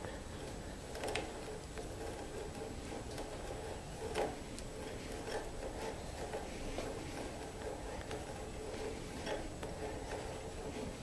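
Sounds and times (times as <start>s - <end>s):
auger bit scraping wood: 0.4s - 11.0s.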